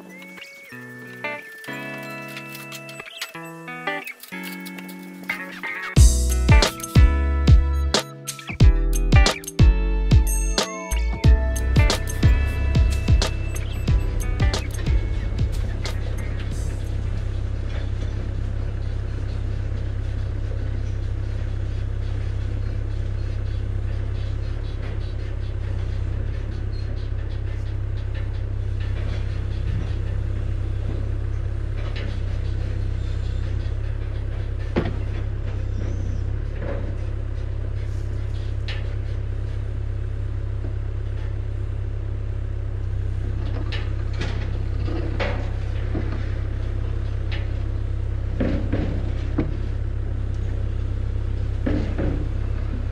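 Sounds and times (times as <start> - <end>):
engine and road rumble: 0.0 - 52.9.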